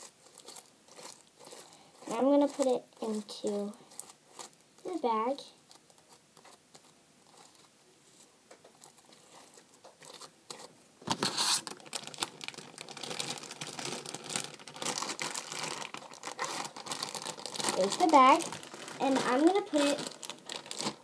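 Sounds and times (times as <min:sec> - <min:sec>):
plastic bag crinkling: 0:00.0 - 0:07.7, 0:08.7 - 0:21.0.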